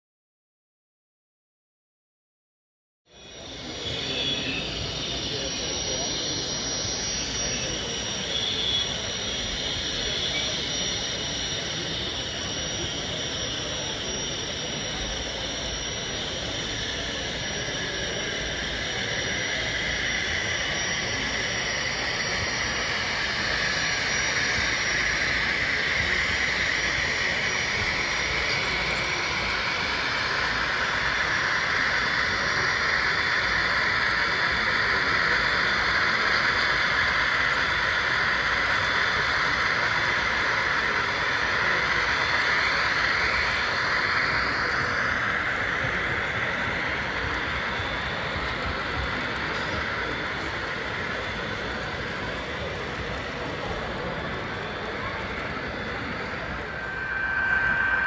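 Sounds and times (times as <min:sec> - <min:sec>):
model locomotive jet-like whine: 0:03.1 - 0:58.0.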